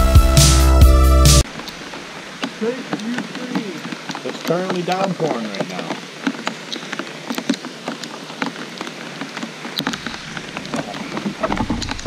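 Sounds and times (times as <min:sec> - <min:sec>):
steady rain: 0:00.0 - 0:12.0
raindrops ticking close by: 0:01.4 - 0:12.0.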